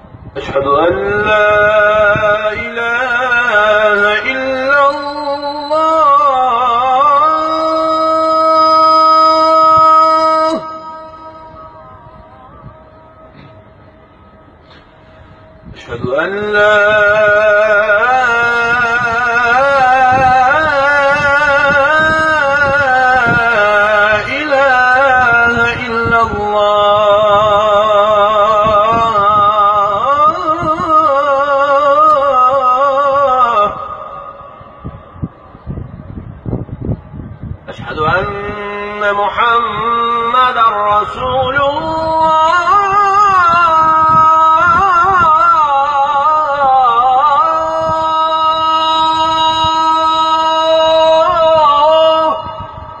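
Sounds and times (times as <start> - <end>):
man singing call to prayer: 0.3 - 13.6, 15.6 - 35.3, 37.6 - 53.0.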